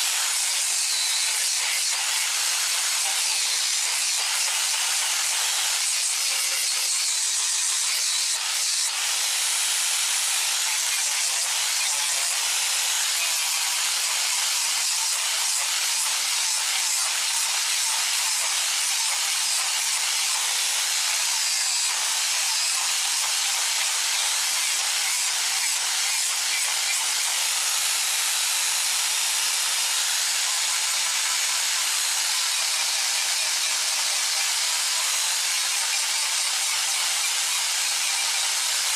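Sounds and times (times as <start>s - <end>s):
angle grinder grinding wood: 0.0s - 38.9s.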